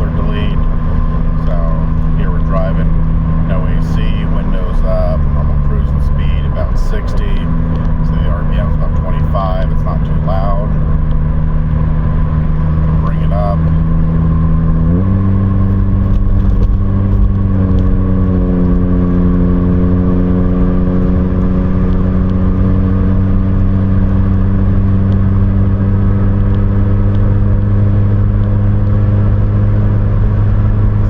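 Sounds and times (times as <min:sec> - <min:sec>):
car exhaust drone: 0:00.0 - 0:31.0
tyre and road noise: 0:00.0 - 0:31.0.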